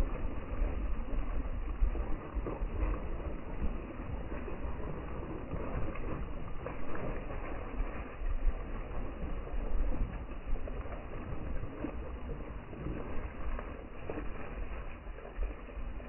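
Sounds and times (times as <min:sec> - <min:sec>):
low uneven rumble: 0:00.0 - 0:16.0
rain on foliage: 0:00.0 - 0:16.0.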